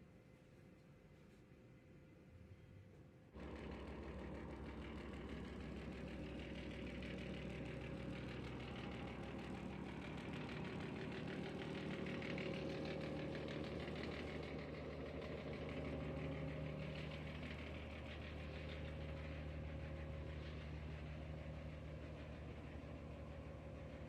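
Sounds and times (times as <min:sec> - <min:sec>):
truck diesel engine running: 0:03.4 - 0:24.0.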